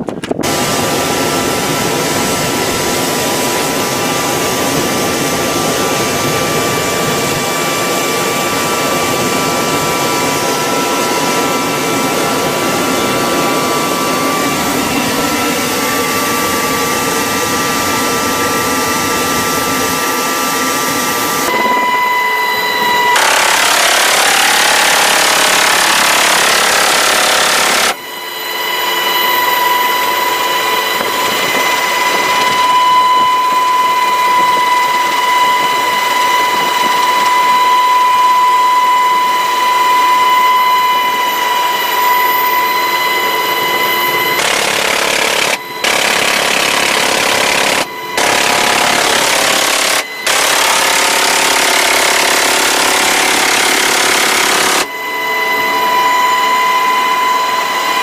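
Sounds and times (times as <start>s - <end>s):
helicopter clatter and whine: 0.0s - 58.0s.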